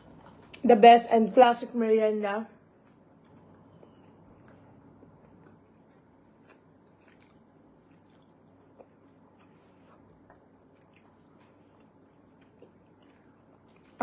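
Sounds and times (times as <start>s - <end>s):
soft chewing and mouth sounds: 0.0s - 0.6s, 2.5s - 14.0s.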